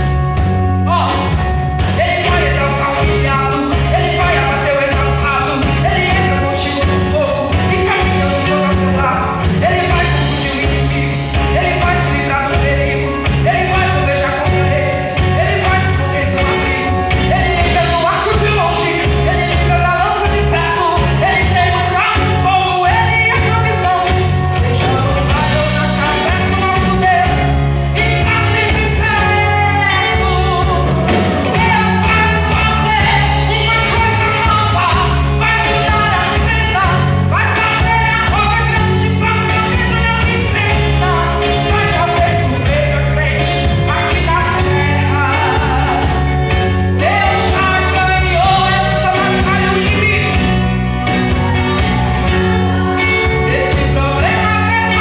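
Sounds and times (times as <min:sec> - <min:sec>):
church band playing: 0:00.0 - 0:55.0
woman singing into microphone: 0:02.0 - 0:50.6, 0:51.2 - 0:55.0.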